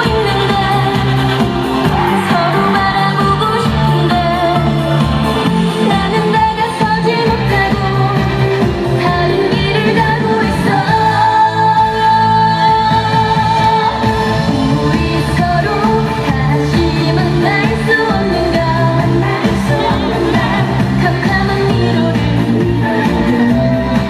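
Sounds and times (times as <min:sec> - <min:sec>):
loud pop backing music: 0:00.0 - 0:24.0
woman singing: 0:00.0 - 0:24.0.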